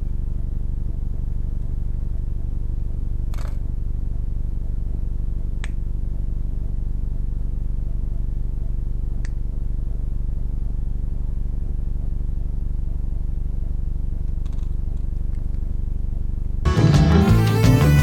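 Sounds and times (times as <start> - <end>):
low buzzing mechanical hum: 0.0 - 18.0.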